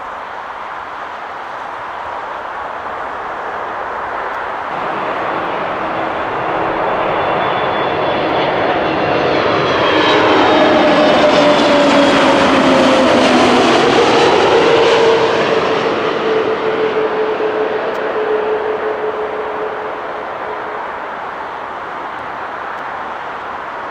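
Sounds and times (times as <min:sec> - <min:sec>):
jet airliner passing: 0:00.0 - 0:23.9.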